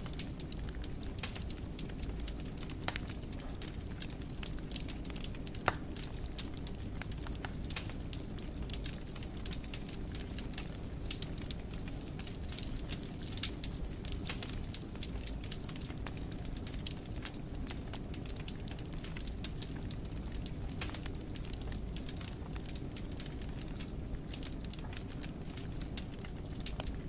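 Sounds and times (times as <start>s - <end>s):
fire crackles and pops: 0.0s - 27.0s
wood fire burning: 0.0s - 27.0s.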